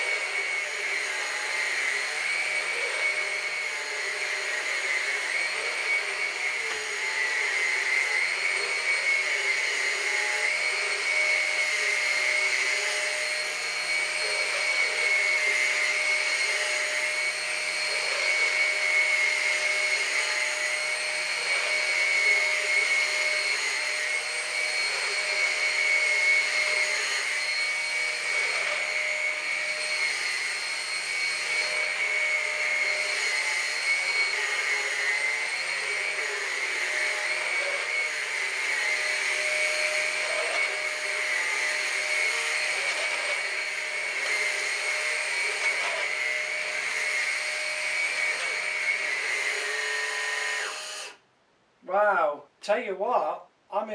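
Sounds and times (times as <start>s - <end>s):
stick vacuum motor whine: 0.0s - 51.2s.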